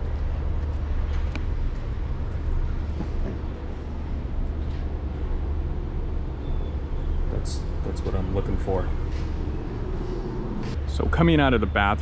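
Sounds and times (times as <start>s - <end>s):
outdoor noise: 0.0s - 12.0s
steady low rumble: 0.0s - 12.0s.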